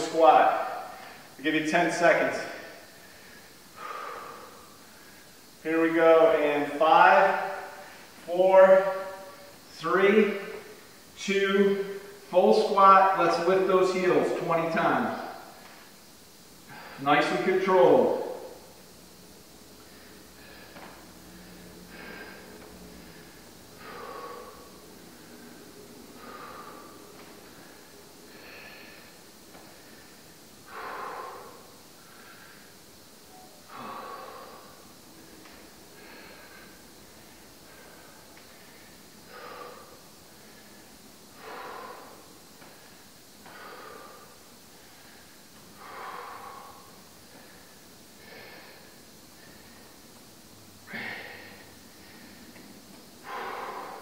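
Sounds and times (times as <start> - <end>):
faint steady hiss: 0.0 - 54.0
man breathing hard: 2.2 - 9.6, 15.0 - 17.1, 18.0 - 54.0.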